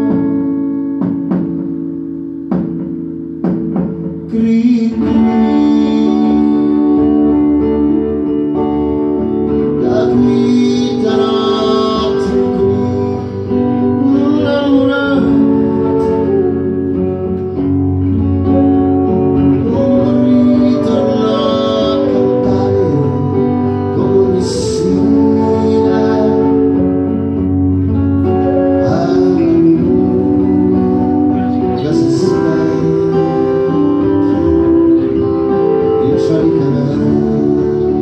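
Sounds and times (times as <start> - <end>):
acoustic guitar: 0.0 - 38.0
flute melody: 3.5 - 38.0.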